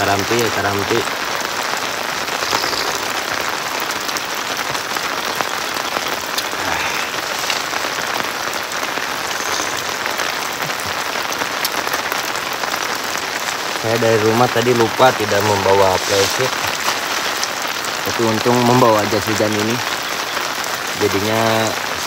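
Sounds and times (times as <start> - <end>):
rain on a lake: 0.0 - 22.0
rain on a tarp: 0.0 - 22.0.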